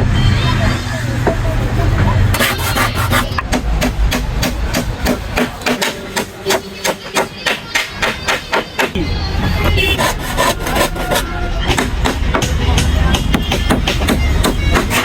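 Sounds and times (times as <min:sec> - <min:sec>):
rapid hammering: 0:01.0 - 0:09.0, 0:09.8 - 0:15.0.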